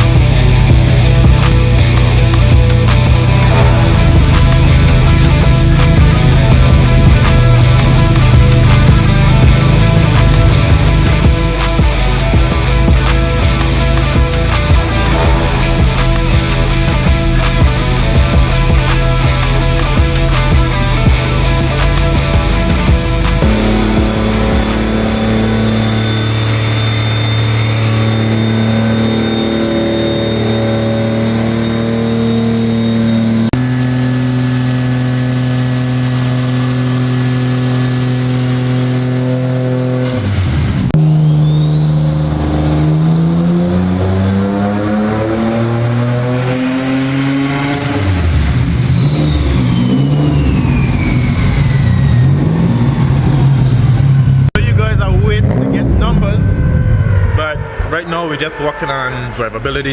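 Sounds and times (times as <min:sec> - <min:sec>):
car engine running: 0:00.0 - 0:58.7
thin high whine: 0:00.0 - 0:59.9.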